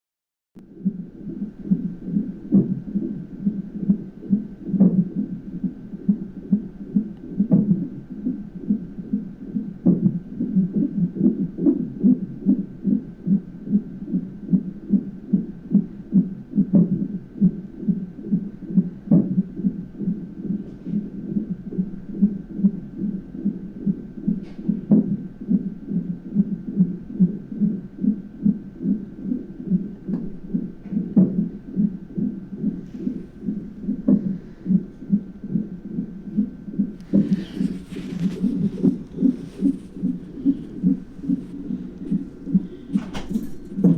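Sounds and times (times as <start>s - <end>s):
whooshing heartbeat pulse: 0.7s - 43.9s.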